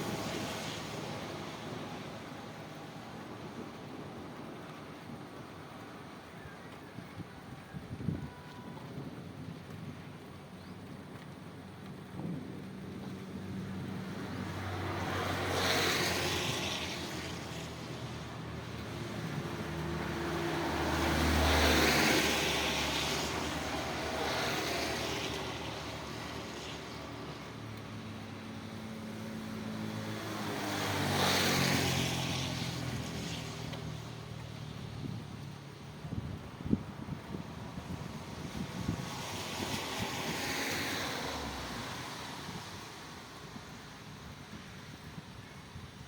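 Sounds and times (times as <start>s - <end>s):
rain: 0.0s - 46.0s
vehicles passing on wet road: 0.0s - 46.0s.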